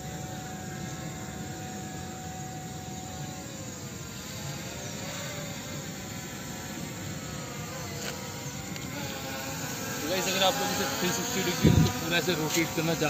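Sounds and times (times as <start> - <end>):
drone propeller whine: 0.0 - 13.0.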